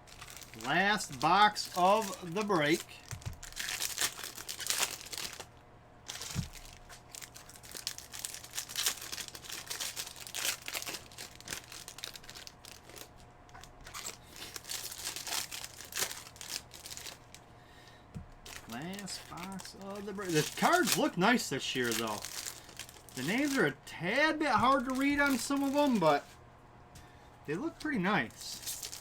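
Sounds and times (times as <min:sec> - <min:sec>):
plastic wrapping crinkling and tearing: 0:00.0 - 0:05.5, 0:06.1 - 0:17.4, 0:18.4 - 0:26.4, 0:27.8 - 0:29.0.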